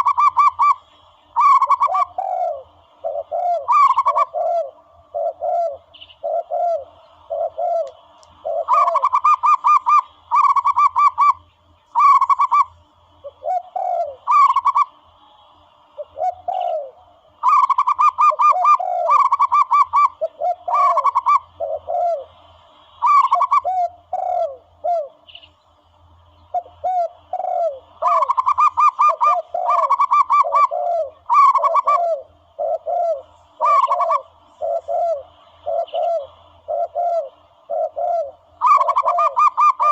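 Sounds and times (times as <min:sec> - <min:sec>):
dove calls: 0:00.0 - 0:39.9.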